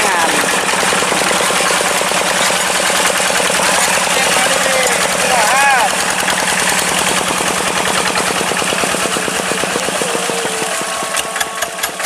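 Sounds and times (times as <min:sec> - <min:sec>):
tractor diesel engine chugging: 0:00.0 - 0:12.0.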